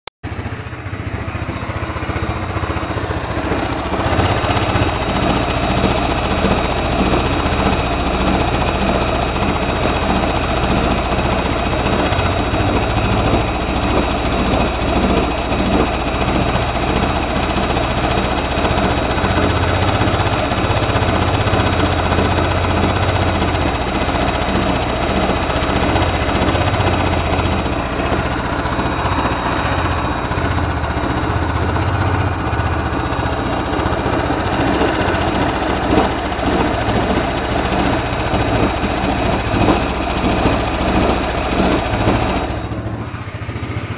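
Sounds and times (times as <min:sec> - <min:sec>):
scooter engine rattling: 0:00.2 - 0:43.9.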